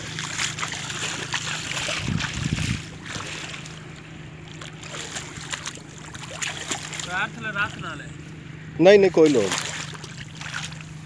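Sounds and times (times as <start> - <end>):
steady low hum: 0.0 - 11.0
water splashing and sloshing: 0.0 - 11.0.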